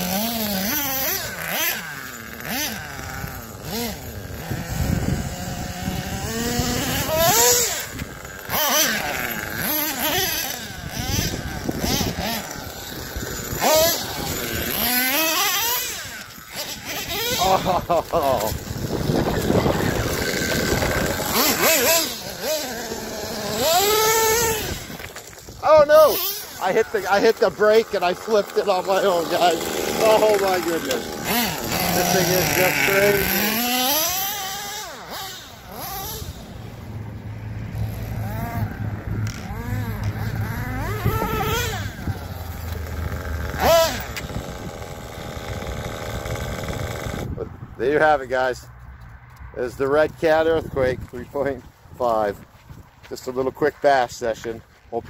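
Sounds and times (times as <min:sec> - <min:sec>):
rc truck nitro engine revving: 0:00.0 - 0:48.5.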